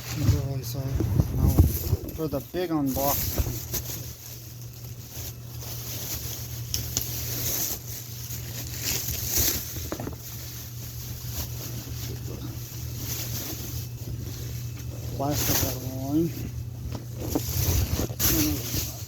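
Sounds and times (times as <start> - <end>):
plastic packaging crinkling: 0.0 - 19.0
steady low hum: 0.0 - 19.0.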